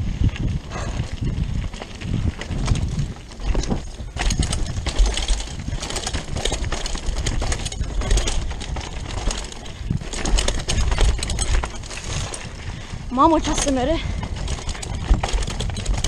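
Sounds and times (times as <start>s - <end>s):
bike tyres on dirt: 0.0s - 16.0s
wind rumble on microphone: 0.0s - 16.0s
bike chain and frame clattering: 0.4s - 16.0s.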